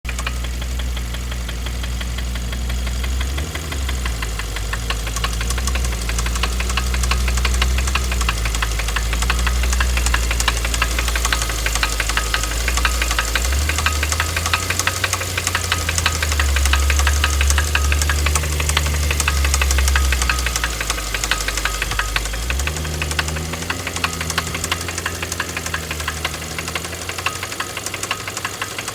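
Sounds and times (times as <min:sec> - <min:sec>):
engine idling with rapid knock: 0:00.0 - 0:28.9.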